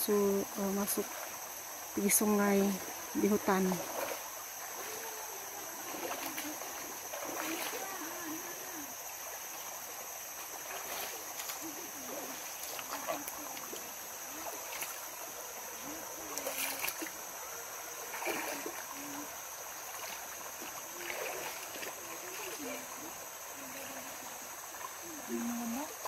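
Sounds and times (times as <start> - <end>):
stream splashing over stones: 0.0 - 26.0.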